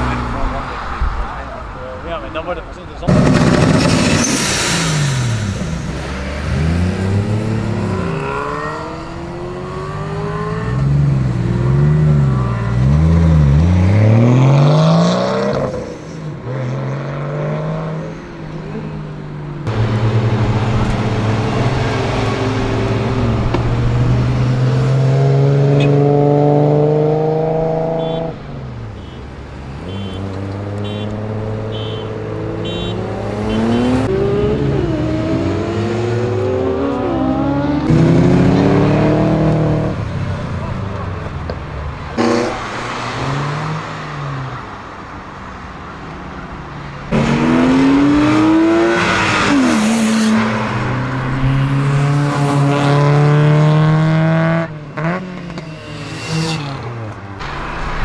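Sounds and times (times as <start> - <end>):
sports car engines revving: 3.0 - 44.9, 47.1 - 57.8.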